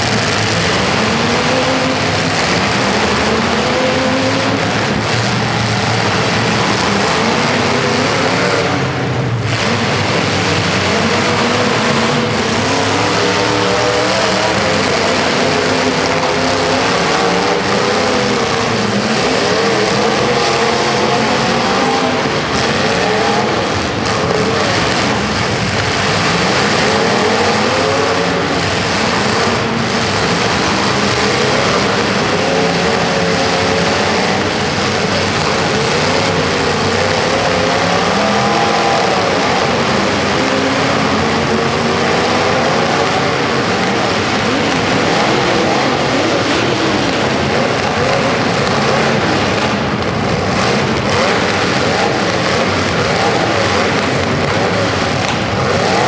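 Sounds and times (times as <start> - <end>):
car engines revving: 0.0 - 56.0
steady loud din: 0.0 - 56.0.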